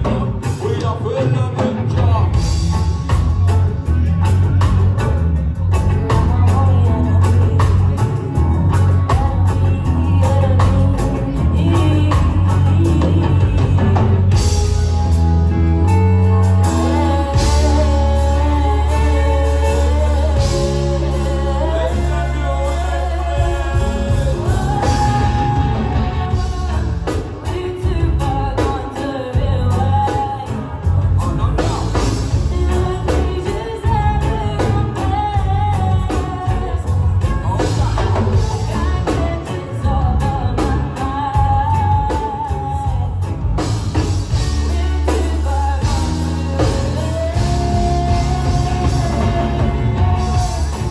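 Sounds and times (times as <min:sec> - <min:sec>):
bass guitar: 0:00.0 - 0:50.9
drum kit: 0:00.0 - 0:50.9
lead singer singing: 0:00.0 - 0:50.9
live band playing: 0:00.0 - 0:50.9.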